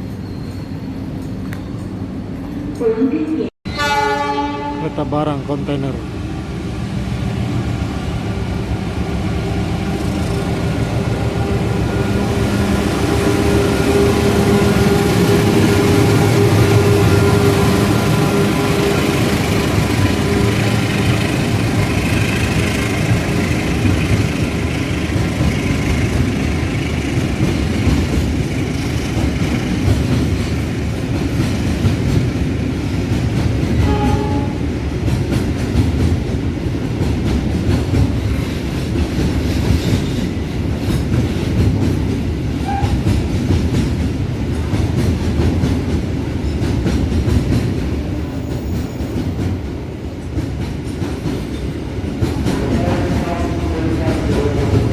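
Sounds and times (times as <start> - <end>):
freight train rumble: 0.0 - 54.9.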